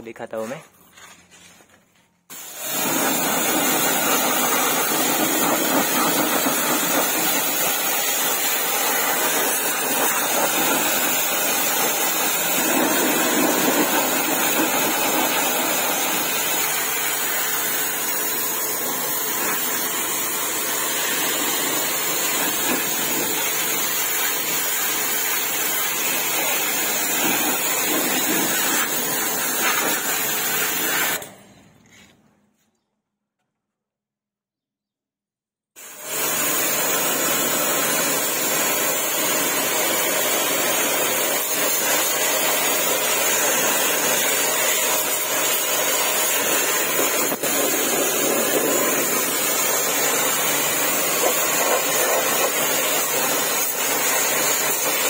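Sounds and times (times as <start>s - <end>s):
pressure washer spraying water: 2.3s - 31.3s, 35.8s - 55.0s.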